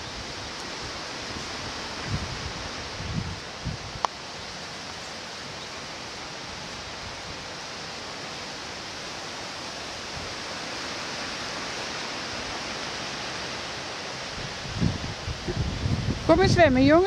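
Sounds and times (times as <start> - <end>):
wind through trees and grass: 0.0 - 17.0.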